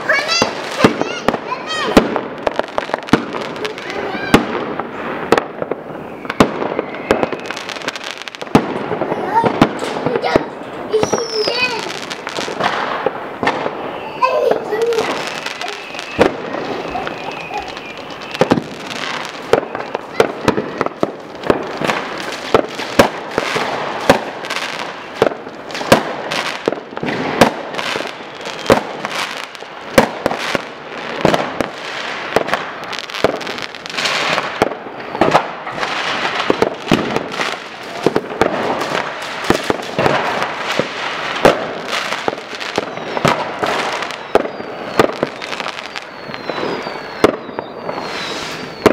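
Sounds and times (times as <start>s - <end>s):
fireworks sharp bangs: 0.0s - 48.9s.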